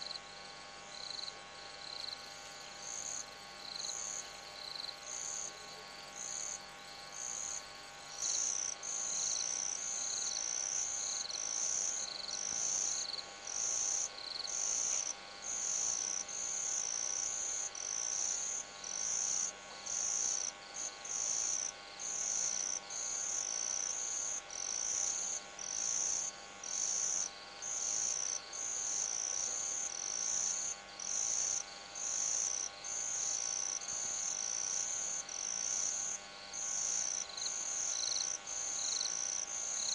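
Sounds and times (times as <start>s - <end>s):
crickets chirping: 0.0s - 39.9s
faint steady hum: 0.0s - 39.9s.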